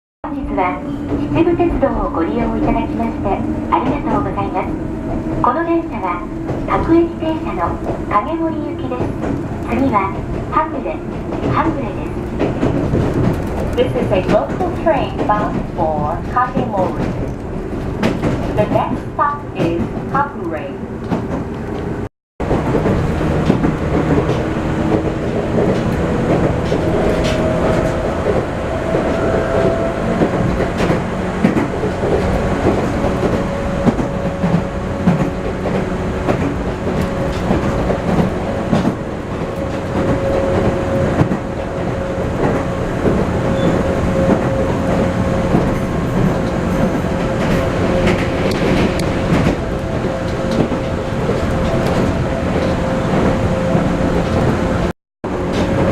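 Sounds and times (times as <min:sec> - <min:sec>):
train rumble: 0:00.2 - 0:55.9
train wheels clicking over rail joints: 0:04.9 - 0:55.9.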